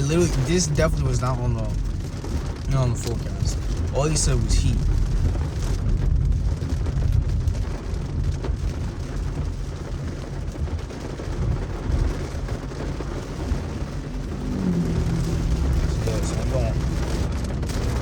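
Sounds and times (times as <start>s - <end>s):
engine and tyres rumbling: 0.0s - 18.0s
rain and spray on car: 0.0s - 18.0s.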